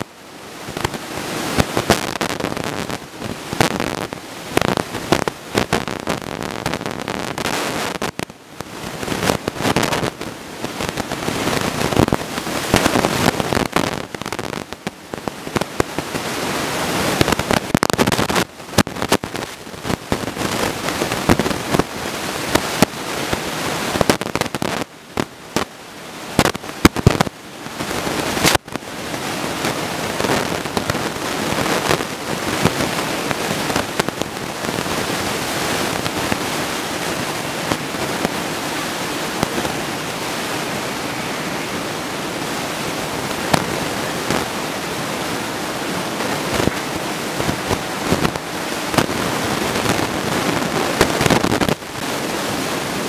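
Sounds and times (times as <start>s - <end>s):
crackles and sharp pops: 0.0s - 16.4s, 17.0s - 40.7s, 43.3s - 44.8s, 46.2s - 52.7s
ocean surf breaking: 0.0s - 53.0s.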